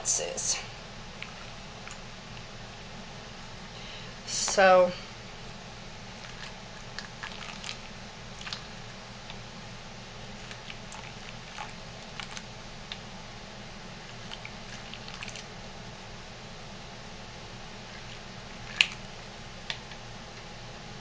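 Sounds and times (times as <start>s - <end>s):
background hiss and hum: 0.0s - 21.0s.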